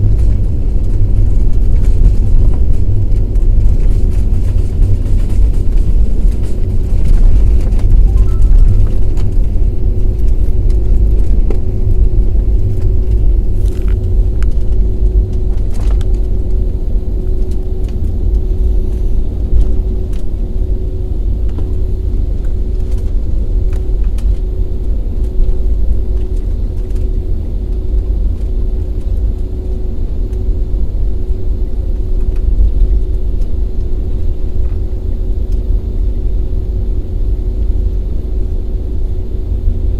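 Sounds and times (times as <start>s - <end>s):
aircraft low rumble: 0.0s - 39.9s
constant humming tone: 0.0s - 39.9s.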